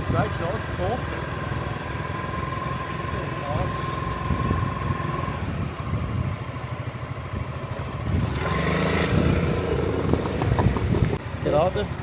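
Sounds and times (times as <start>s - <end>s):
passing vehicle engine: 0.0s - 11.6s.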